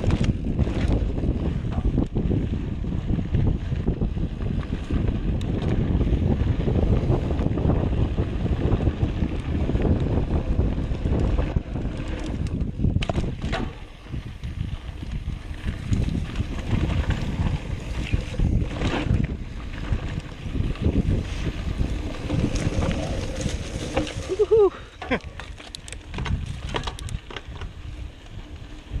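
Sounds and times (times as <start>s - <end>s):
tyres rumbling on dirt trail: 0.0s - 29.0s
wind buffeting microphone: 0.0s - 29.0s.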